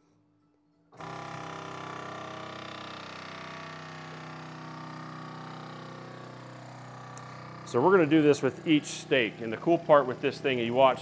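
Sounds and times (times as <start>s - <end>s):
vacuum pump motor running: 1.0s - 11.0s.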